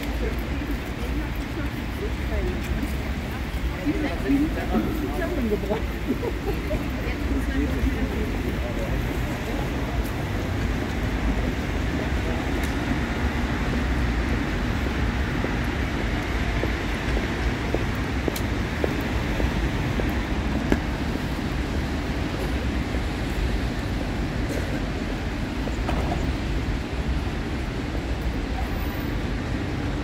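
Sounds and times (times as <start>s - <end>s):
city traffic and street noise: 0.0s - 30.0s.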